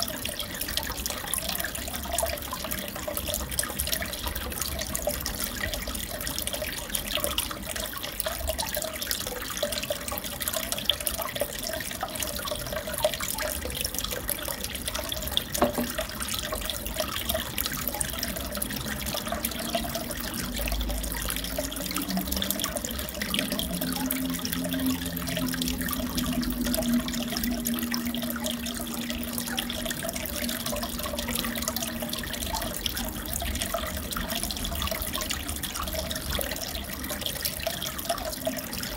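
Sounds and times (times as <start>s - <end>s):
small drips and splashes: 0.0s - 38.9s
water trickling and bubbling: 0.0s - 38.9s.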